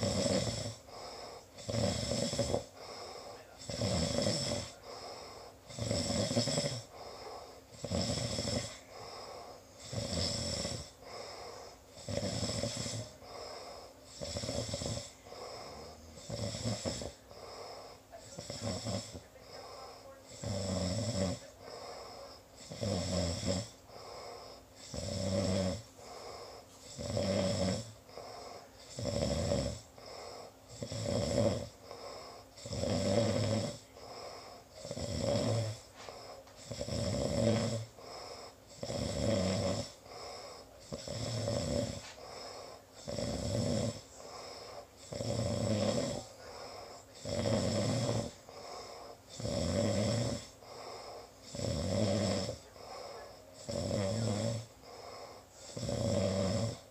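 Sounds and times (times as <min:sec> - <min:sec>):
deep rasping snoring: 0:00.0 - 0:56.9.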